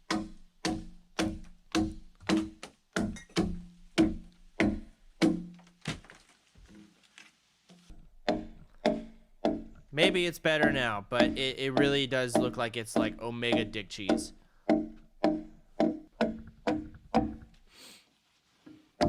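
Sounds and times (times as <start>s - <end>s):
tool striking timber: 0.0s - 6.0s, 8.2s - 17.6s.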